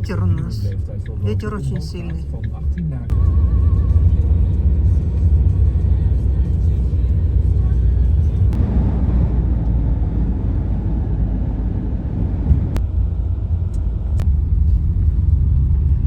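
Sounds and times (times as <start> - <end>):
car road rumble inside cabin: 0.0 - 16.0.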